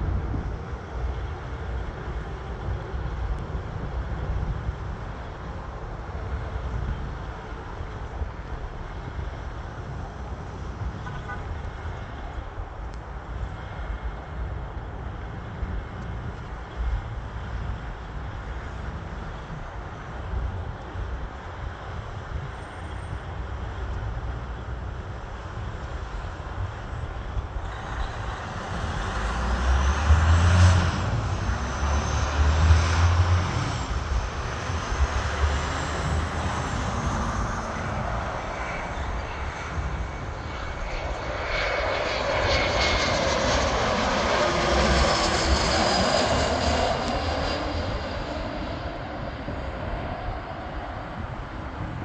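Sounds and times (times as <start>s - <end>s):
road traffic noise: 0.0s - 52.0s
wind rumble on microphone: 0.0s - 52.0s.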